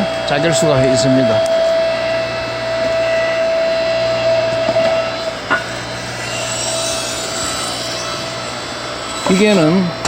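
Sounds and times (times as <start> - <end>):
log splitter hum and whine: 0.0 - 10.0.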